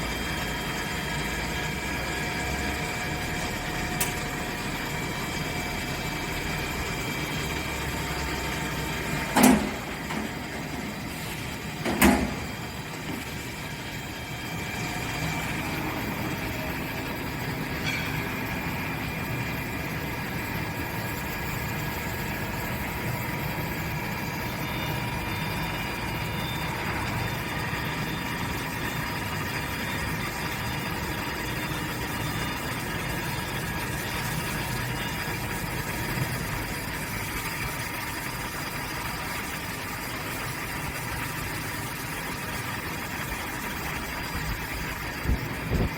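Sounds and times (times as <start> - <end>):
cnc machine humming and whining: 0.0 - 45.9.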